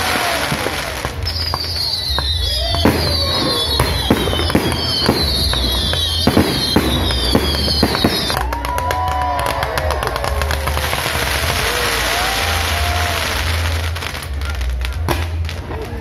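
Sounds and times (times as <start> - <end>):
firework bangs: 0.0 - 16.0
firework whistles: 0.0 - 16.0.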